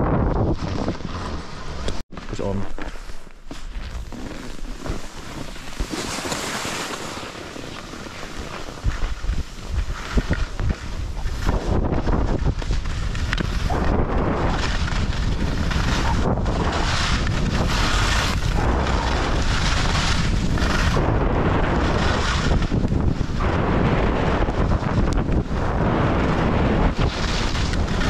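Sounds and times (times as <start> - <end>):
wind buffeting microphone: 0.0 - 2.6, 5.5 - 28.0.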